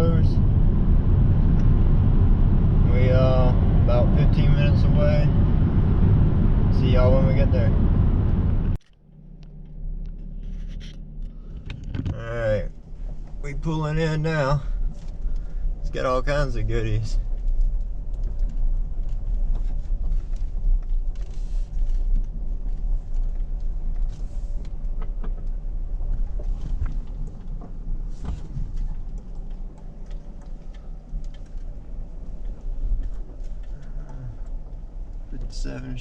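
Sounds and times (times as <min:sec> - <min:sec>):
faint hum: 0:00.0 - 0:36.0
vehicle driving rumble: 0:00.0 - 0:36.0.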